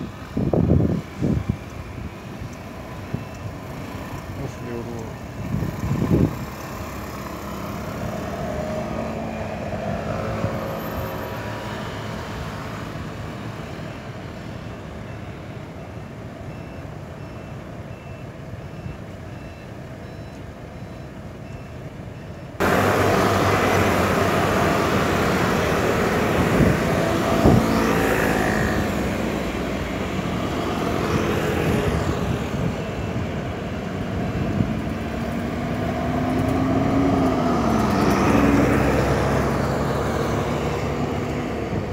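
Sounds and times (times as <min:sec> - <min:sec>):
bus engine passing: 0:00.0 - 0:16.4, 0:22.6 - 0:41.9
scooters and cars passing: 0:00.0 - 0:20.0, 0:22.5 - 0:41.9.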